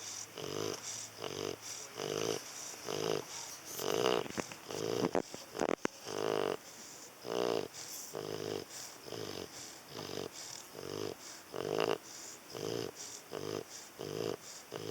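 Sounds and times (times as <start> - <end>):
dog snoring: 0.0 - 14.9.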